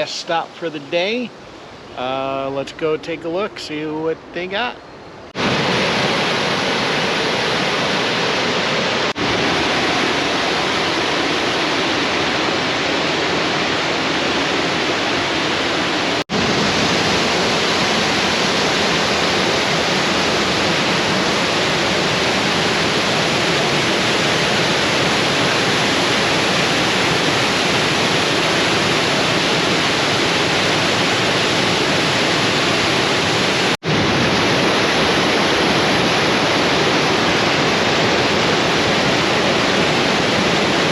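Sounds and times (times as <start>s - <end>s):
waterfall rushing: 0.0s - 4.7s, 5.3s - 40.9s.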